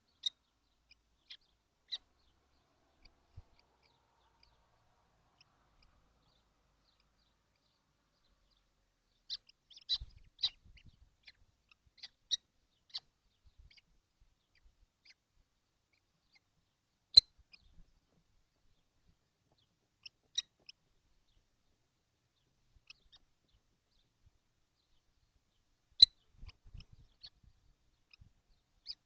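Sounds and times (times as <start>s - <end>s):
nestlings chirping: 0.0s - 29.0s.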